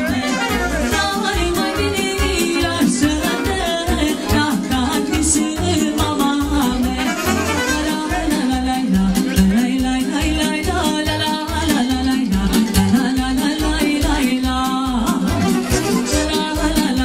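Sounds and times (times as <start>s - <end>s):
band playing folk dance music: 0.0s - 17.0s
person singing: 0.0s - 17.0s.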